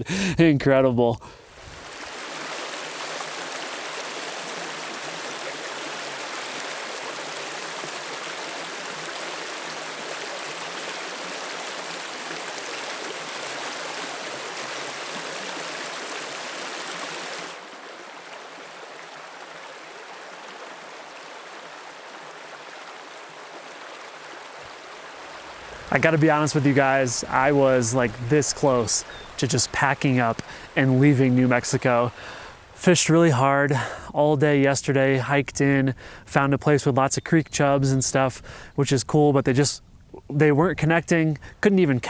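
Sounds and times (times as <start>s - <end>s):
creek water rushing: 1.2s - 42.0s.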